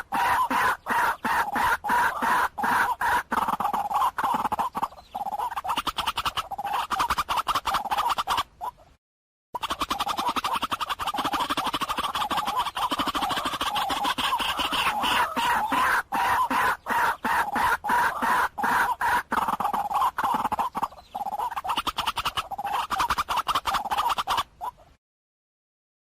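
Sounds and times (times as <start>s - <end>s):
waterhen croaking calls: 0.0s - 8.8s, 9.6s - 25.0s.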